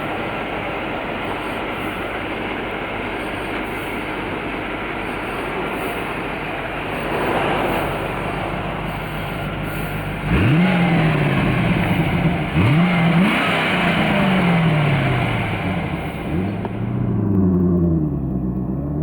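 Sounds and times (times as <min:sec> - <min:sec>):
car engine accelerating: 0:00.0 - 0:19.0
road noise: 0:00.0 - 0:19.0.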